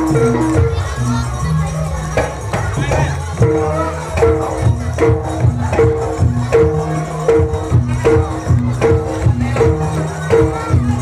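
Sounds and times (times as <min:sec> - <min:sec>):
jingling percussion: 0:00.0 - 0:11.0
pitched percussion alternating notes: 0:00.0 - 0:11.0
steady drum beats: 0:00.0 - 0:11.0.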